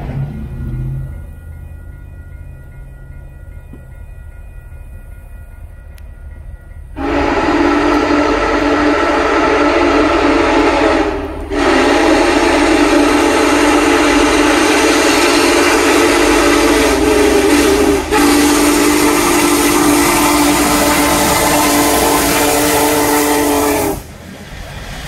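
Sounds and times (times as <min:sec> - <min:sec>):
locomotive rumble: 0:00.0 - 0:25.0
steam locomotive chime whistle: 0:00.6 - 0:24.1.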